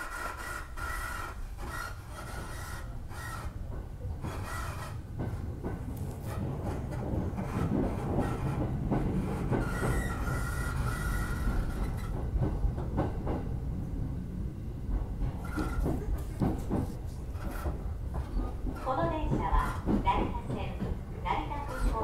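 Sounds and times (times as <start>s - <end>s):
train rumble from inside carriage: 0.0s - 22.0s.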